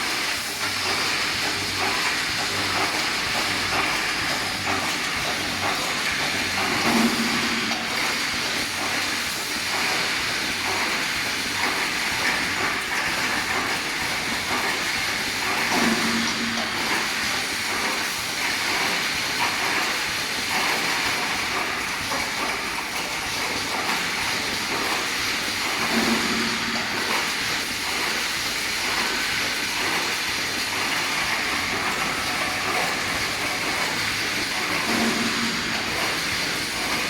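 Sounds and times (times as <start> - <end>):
welding machine clatter: 0.0 - 37.0.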